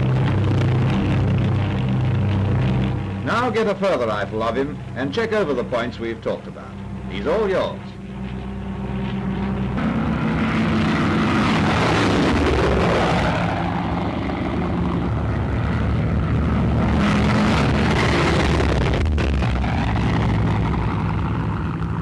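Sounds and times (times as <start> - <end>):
propeller aircraft flying past: 0.0 - 22.0.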